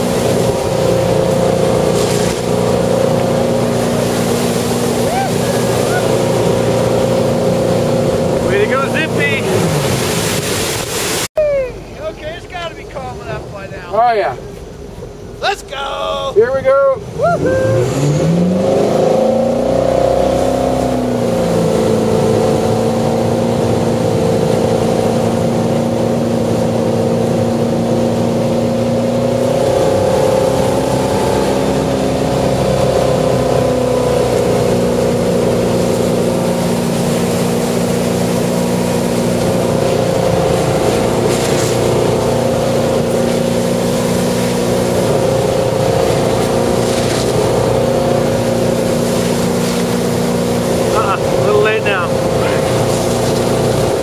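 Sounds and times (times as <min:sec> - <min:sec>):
boat engine accelerating: 0:00.0 - 0:54.0.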